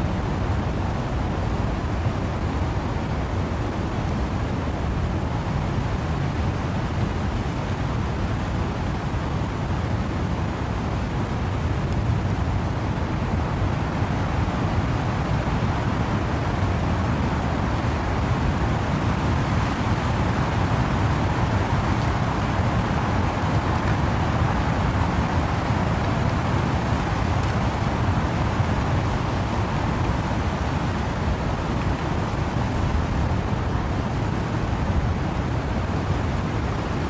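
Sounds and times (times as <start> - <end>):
wind and rain in trees: 0.0 - 37.0.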